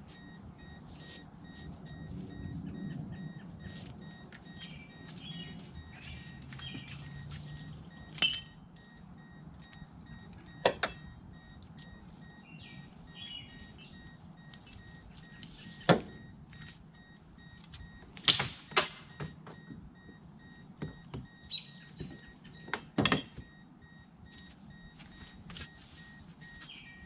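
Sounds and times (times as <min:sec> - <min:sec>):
faint steady beeping: 0:00.0 - 0:27.0.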